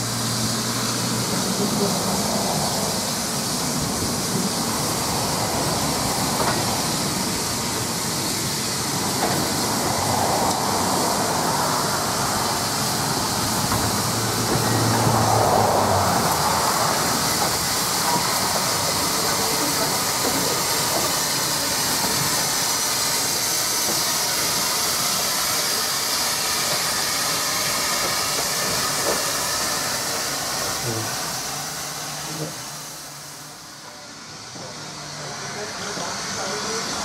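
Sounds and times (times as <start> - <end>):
steam locomotive hissing: 0.0 - 37.0.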